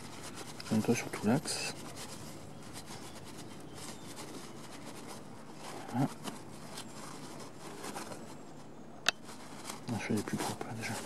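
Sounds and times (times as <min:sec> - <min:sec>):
paper towel rustling and rubbing: 0:00.0 - 0:11.0.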